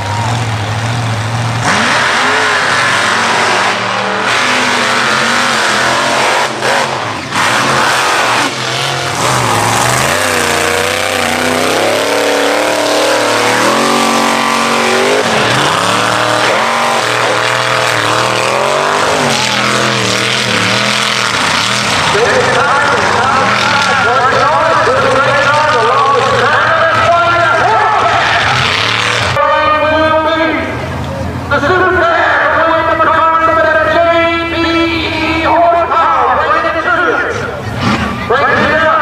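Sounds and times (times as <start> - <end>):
truck engines revving hard: 0.0 - 39.0.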